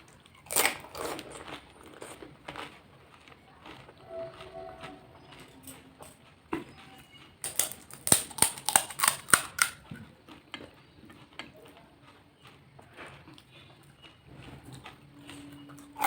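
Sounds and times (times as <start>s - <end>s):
crisp fried shells crunching: 0.0s - 16.0s.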